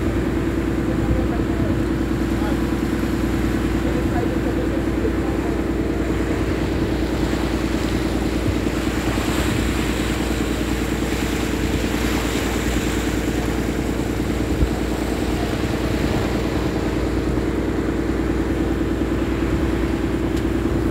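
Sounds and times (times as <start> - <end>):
boat engine droning: 0.0 - 20.9
wind and water rushing: 0.0 - 20.9.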